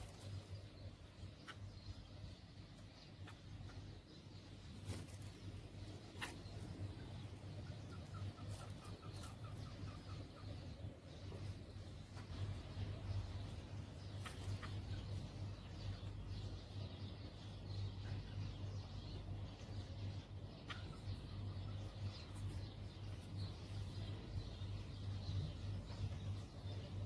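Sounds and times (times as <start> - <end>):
bird chirping faintly: 0.0 - 27.0
steady low hum: 0.0 - 27.0.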